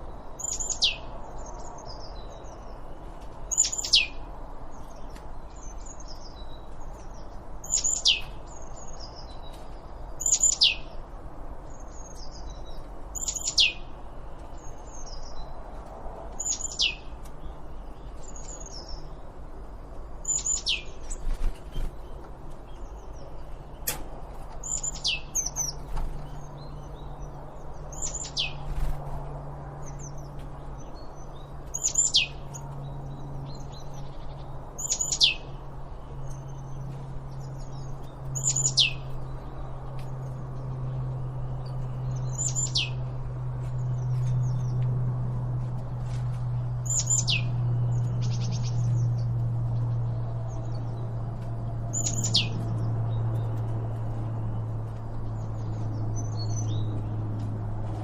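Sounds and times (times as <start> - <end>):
soft bird chirps and twitters: 0.0 - 58.0.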